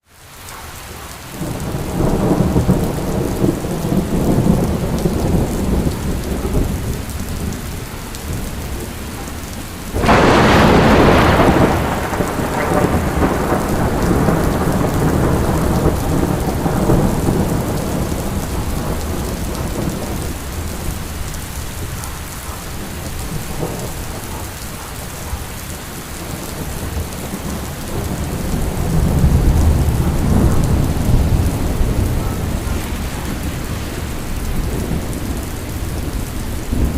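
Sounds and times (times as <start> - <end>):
steady rain: 0.0 - 36.9
loud thunderclap: 1.4 - 9.2, 9.9 - 22.0, 26.2 - 36.9
thunder rolling: 1.4 - 36.9.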